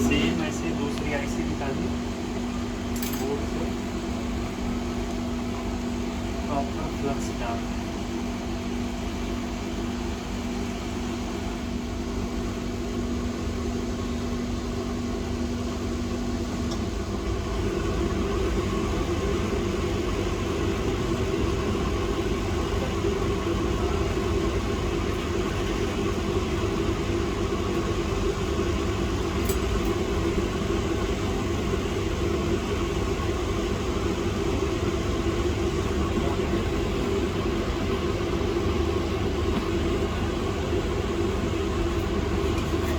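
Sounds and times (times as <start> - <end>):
fan whirring: 0.0 - 42.9
steady hum: 0.0 - 42.9.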